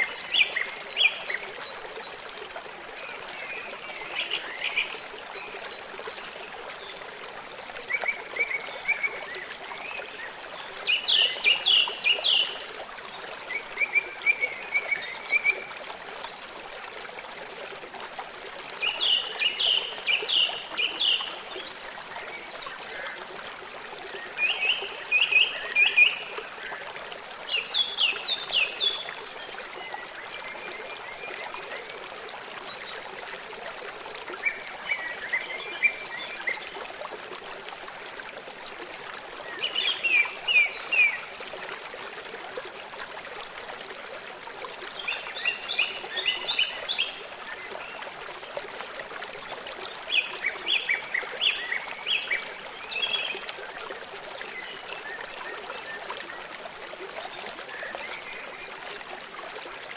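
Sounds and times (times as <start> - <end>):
stream running: 0.0 - 59.9.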